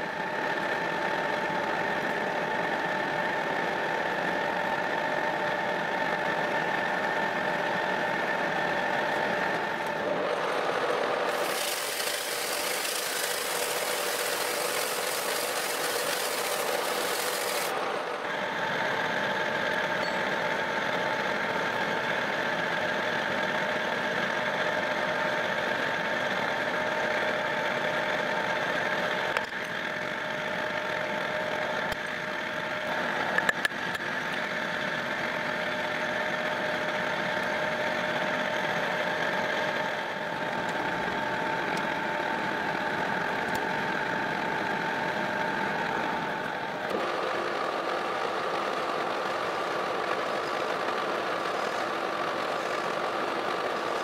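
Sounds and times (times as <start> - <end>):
metal lathe humming: 0.0 - 54.0.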